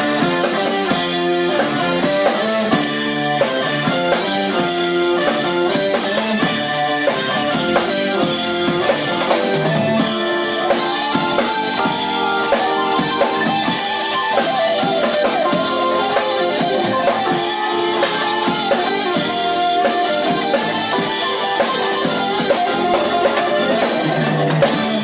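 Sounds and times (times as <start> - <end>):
drum kit: 0.0 - 25.0
electric bass: 0.0 - 25.0
electric guitar: 0.0 - 25.0
keyboards: 0.0 - 25.0
lead line with pitch bends: 0.0 - 25.0.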